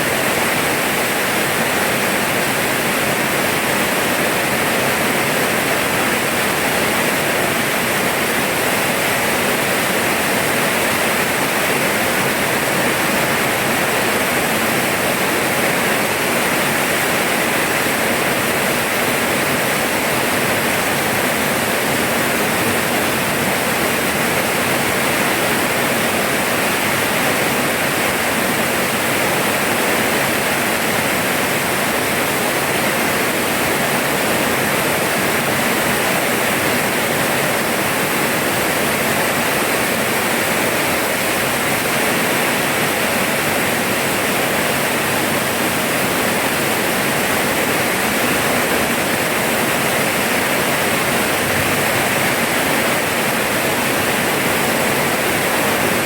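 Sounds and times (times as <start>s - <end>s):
steady dense rain: 0.0s - 56.0s.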